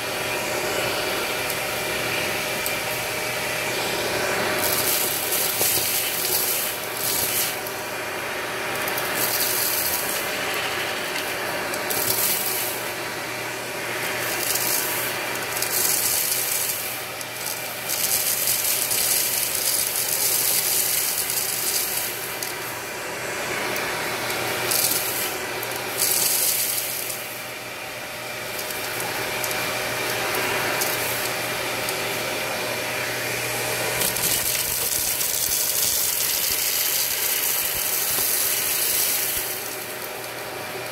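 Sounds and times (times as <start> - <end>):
grains rattling up vacuum hose: 0.0 - 40.9
vacuum cleaner motor hum: 0.0 - 40.9.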